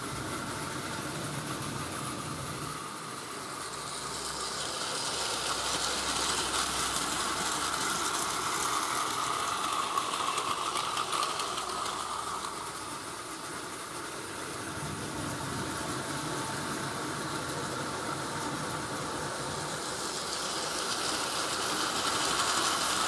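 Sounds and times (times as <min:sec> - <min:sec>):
toy train motor whir: 0:00.0 - 0:23.0
wheel and track clatter: 0:00.0 - 0:23.0.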